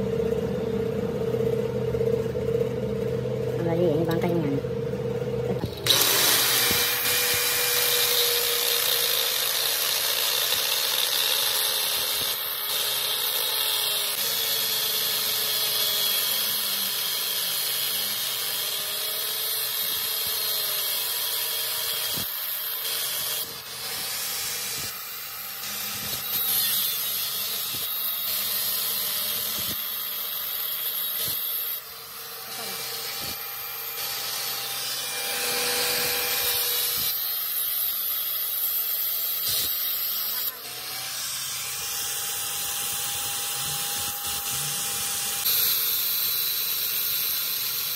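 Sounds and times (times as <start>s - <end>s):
angle grinder grinding steel: 5.5s - 47.9s.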